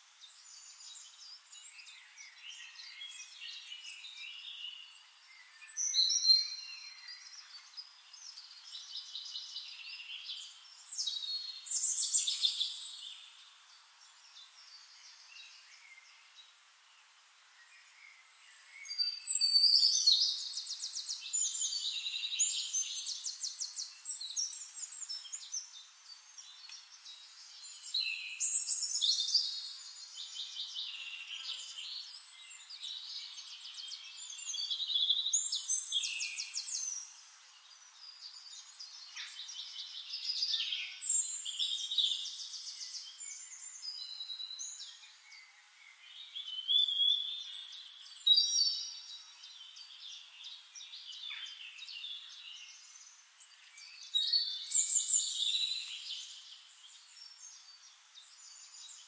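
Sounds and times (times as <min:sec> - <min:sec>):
songbird singing trills and whistles: 0:00.1 - 0:16.6, 0:17.5 - 0:59.0.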